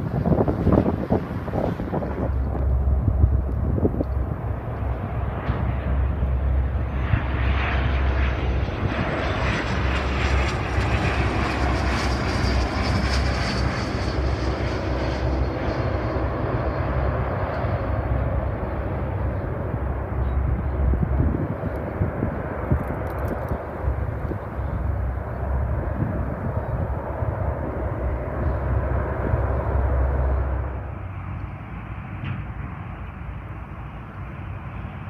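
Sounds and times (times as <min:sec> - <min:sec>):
wind buffeting microphone: 0:00.0 - 0:31.4
jet engines passing: 0:00.0 - 0:35.0.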